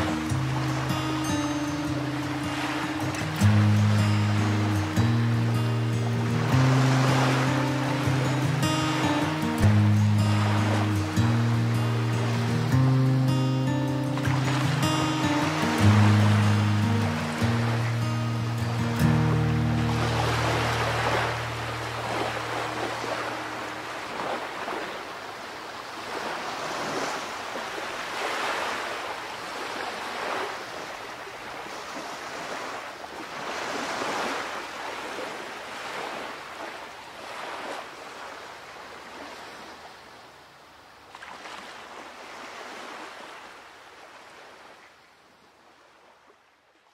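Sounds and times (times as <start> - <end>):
sea waves breaking on beach: 0.0 - 46.9.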